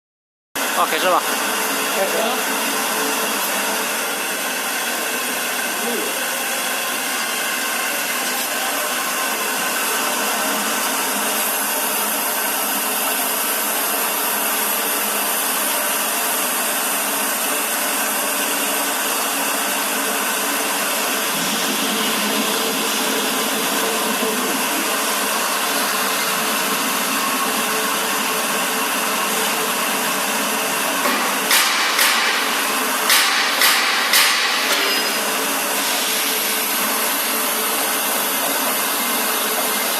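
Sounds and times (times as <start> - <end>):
washing machine whirring: 0.6 - 39.9.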